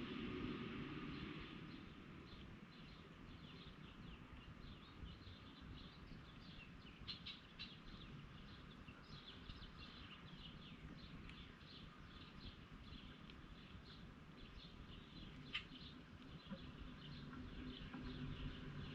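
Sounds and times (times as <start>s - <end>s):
small birds chirping: 1.0s - 18.9s.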